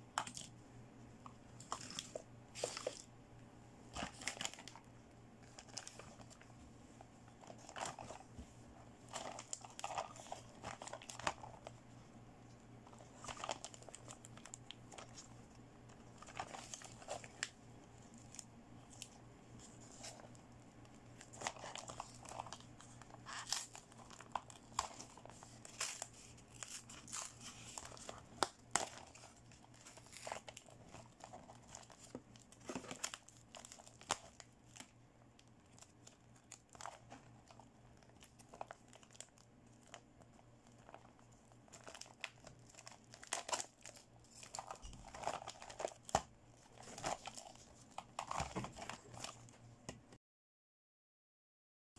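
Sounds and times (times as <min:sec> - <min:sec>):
plastic and paper crinkling: 0:01.5 - 0:03.1, 0:03.9 - 0:12.1, 0:12.8 - 0:49.6.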